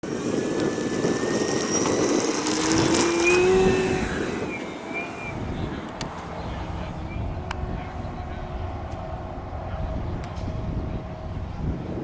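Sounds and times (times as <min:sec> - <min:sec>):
wind rumbling on microphone: 0:00.0 - 0:12.0
electric model airplane motor whining: 0:00.1 - 0:12.0.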